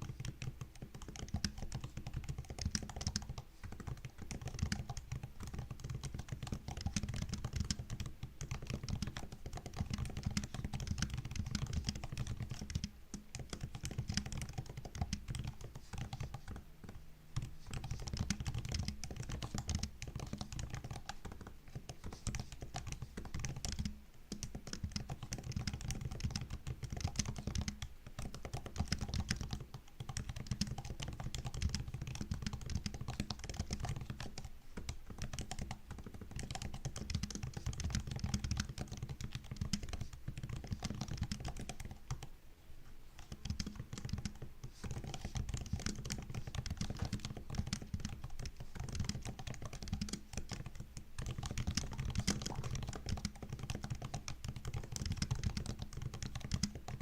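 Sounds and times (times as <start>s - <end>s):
laptop keyboard typing: 0.0s - 42.3s, 43.2s - 57.0s.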